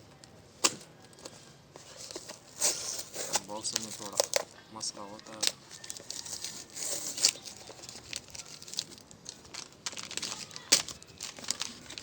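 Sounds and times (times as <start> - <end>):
packaging crinkling and tearing: 1.9 - 12.0.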